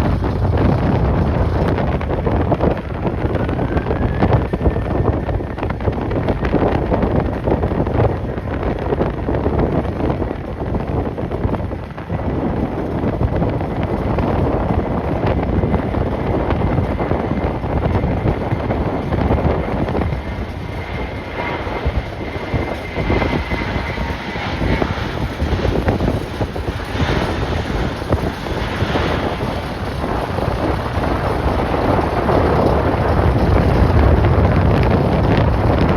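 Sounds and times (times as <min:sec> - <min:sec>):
gusting wind buffeting microphone: 0:00.0 - 0:35.9.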